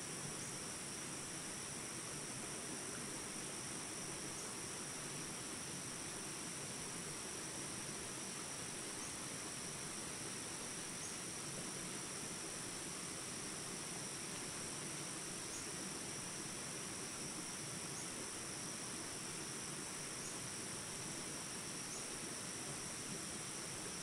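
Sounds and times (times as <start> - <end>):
high-pitched insect chorus: 0.0 - 24.0
open-air ambience hiss: 0.0 - 24.0.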